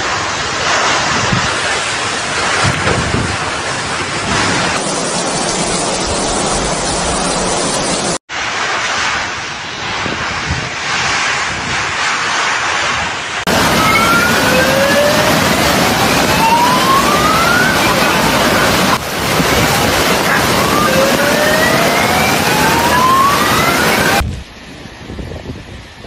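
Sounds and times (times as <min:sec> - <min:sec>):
river rushing roar: 0:00.0 - 0:11.1, 0:11.9 - 0:24.2
surf: 0:00.0 - 0:24.3
gusting wind: 0:00.0 - 0:26.0
rising whine: 0:02.5 - 0:24.9.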